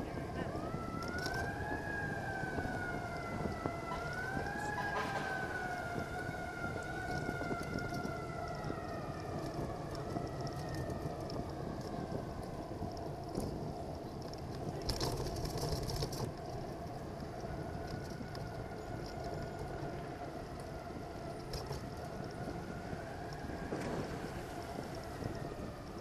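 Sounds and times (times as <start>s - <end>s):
siren wailing: 0.0s - 13.7s, 16.8s - 26.0s
bicycle road noise: 0.0s - 26.0s
wind noise: 0.0s - 26.0s.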